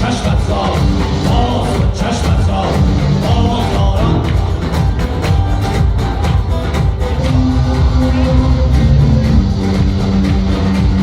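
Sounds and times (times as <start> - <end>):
driving drum beat: 0.0 - 11.0
live band playing loud music: 0.0 - 11.0.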